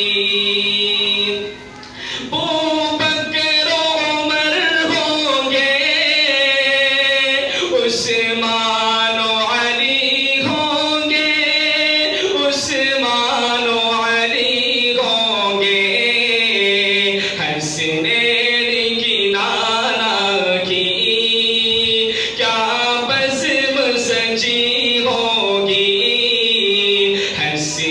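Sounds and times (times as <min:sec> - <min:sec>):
man singing: 0:00.0 - 0:27.9.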